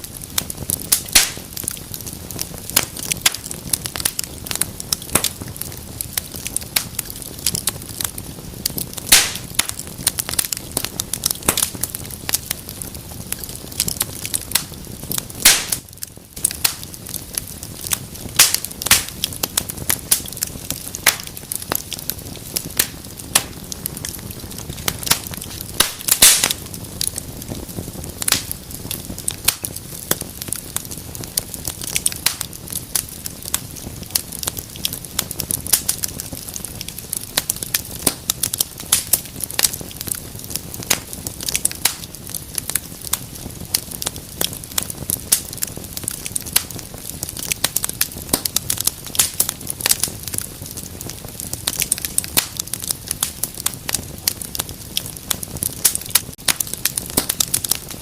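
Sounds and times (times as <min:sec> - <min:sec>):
fire crackling and popping: 0:00.0 - 0:58.0
low rush of flames: 0:00.0 - 0:58.0.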